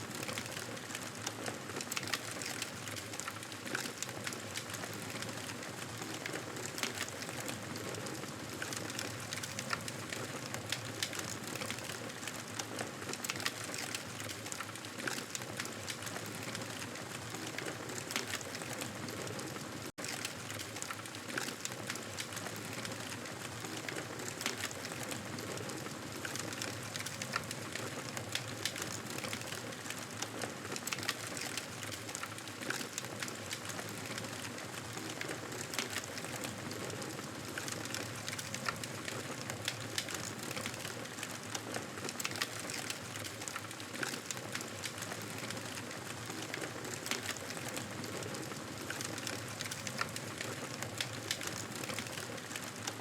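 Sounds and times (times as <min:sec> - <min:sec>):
campfire crackling: 0:00.1 - 0:53.0.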